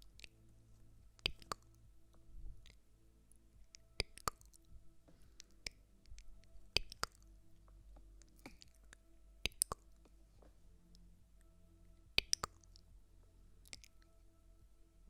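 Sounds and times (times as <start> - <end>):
soft clicks and taps: 0.0 - 11.5, 12.1 - 13.0, 13.6 - 14.2
faint low hum: 0.0 - 15.0.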